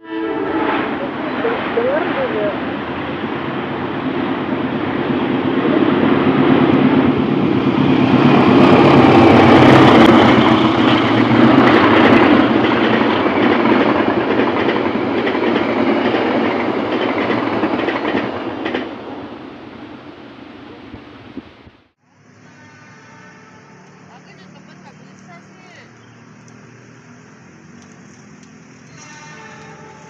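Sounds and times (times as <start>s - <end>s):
locomotive engine drone: 0.0s - 30.0s
train wheels on rail: 0.2s - 19.9s, 22.3s - 30.0s.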